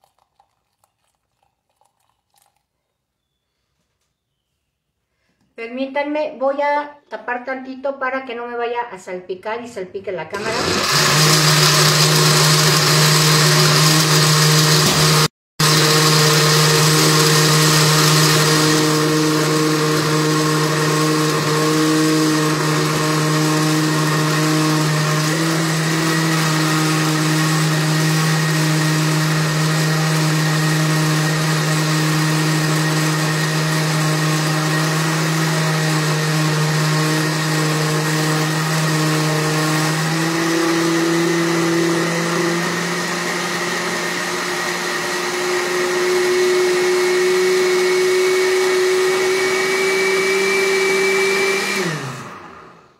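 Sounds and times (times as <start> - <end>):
blender motor running: 10.4 - 52.9.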